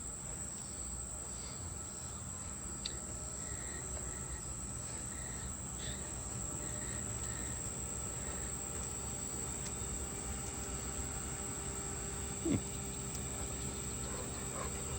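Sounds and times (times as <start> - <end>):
heat pump humming: 0.0 - 14.9
insect drone: 0.0 - 14.9
faint chirps: 0.4 - 14.9.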